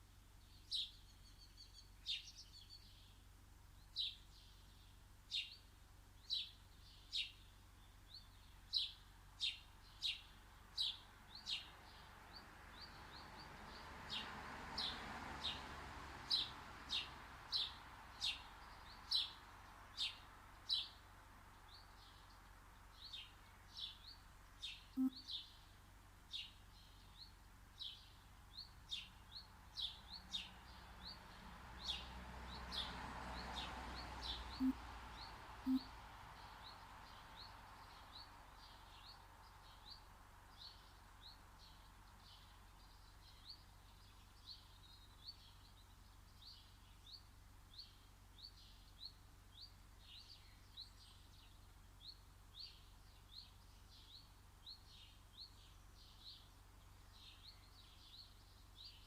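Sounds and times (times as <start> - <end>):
bird chirping: 0.0 - 15.6, 16.3 - 59.0.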